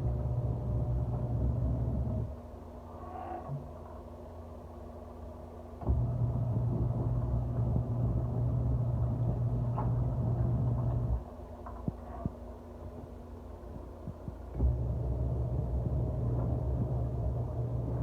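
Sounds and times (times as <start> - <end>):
faint low rumble: 0.0 - 18.0
washing machine motor hum: 0.0 - 18.0.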